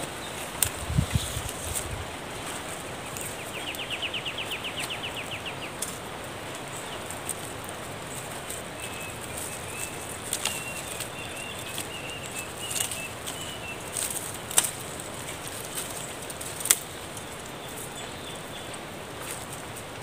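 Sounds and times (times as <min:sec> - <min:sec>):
branches snapping and rustling: 0:00.0 - 0:20.0.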